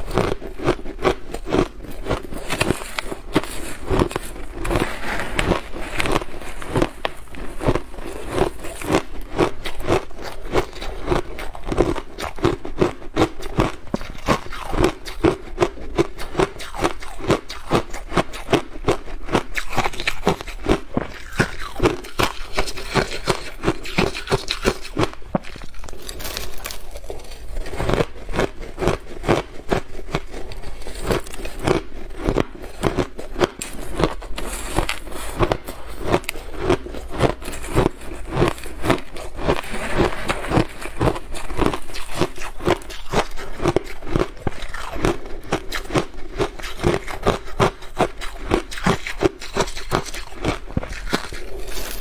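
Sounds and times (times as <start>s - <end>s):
shaved ice being chewed: 0.0s - 52.0s.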